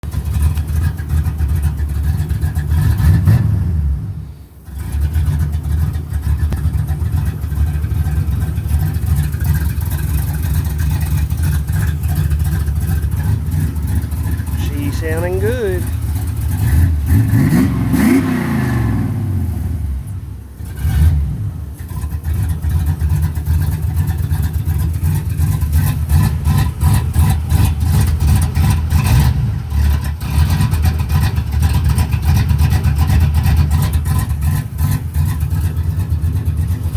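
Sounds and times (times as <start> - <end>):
engine revving through exhaust: 0.0 - 15.2, 15.8 - 36.9.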